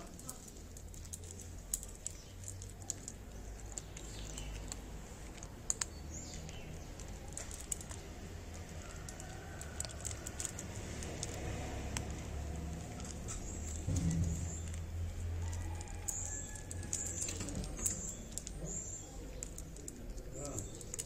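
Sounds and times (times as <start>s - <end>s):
sharp clicks and taps: 0.1s - 21.0s.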